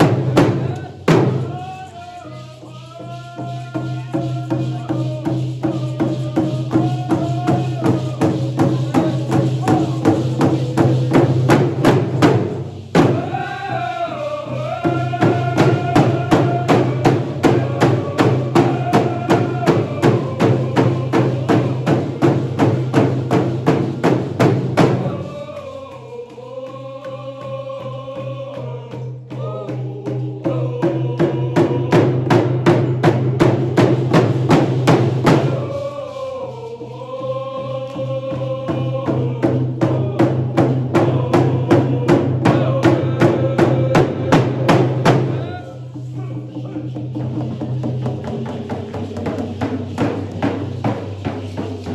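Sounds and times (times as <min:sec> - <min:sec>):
hand drums beating: 0:00.0 - 0:36.9, 0:37.6 - 0:51.9
group singing a chant: 0:00.0 - 0:51.9.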